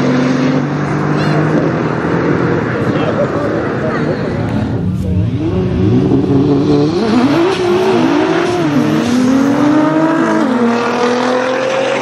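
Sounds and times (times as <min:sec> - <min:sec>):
car engines at full throttle: 0:00.0 - 0:12.0.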